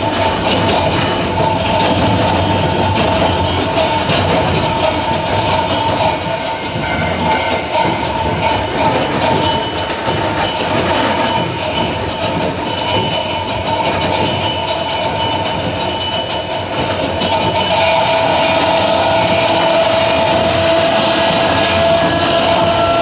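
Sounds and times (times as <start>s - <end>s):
steady whining tones: 0.0s - 23.0s
train wheels rumbling on rails: 0.0s - 23.0s.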